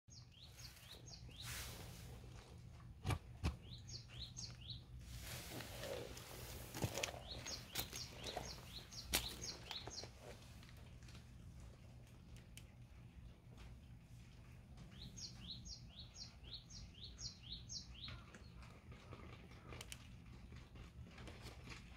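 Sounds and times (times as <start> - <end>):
small birds chirping: 0.1 - 10.9, 11.6 - 20.0
low steady hum: 0.2 - 21.9.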